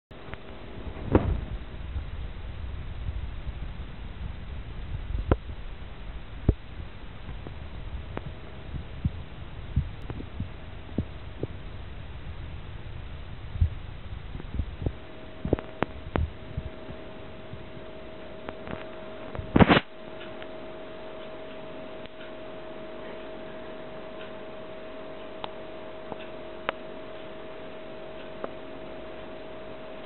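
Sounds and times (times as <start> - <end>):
steady hum: 0.1 - 30.0.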